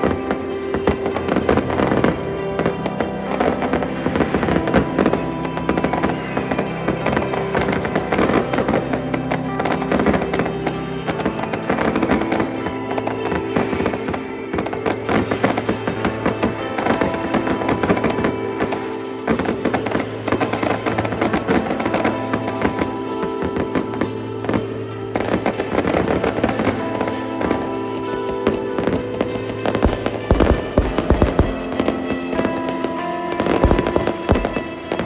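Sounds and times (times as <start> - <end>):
fireworks crackling and popping: 0.0 - 35.0
music playing: 0.0 - 35.0.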